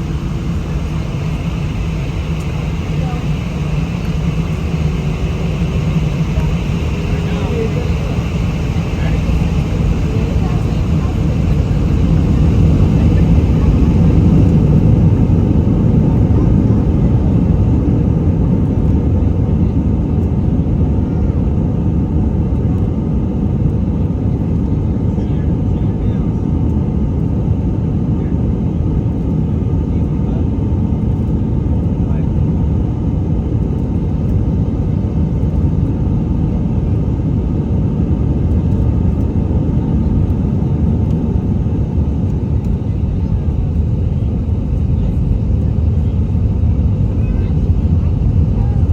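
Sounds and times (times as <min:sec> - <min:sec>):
jet engine and airflow in cabin: 0:00.0 - 0:48.9.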